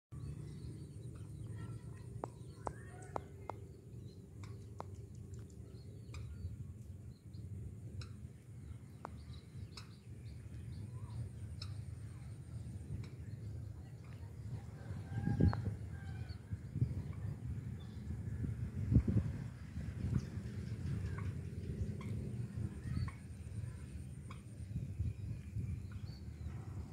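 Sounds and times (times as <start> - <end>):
low steady rumble: 0.1 - 26.9
small birds chirping: 0.2 - 19.1, 19.9 - 26.9.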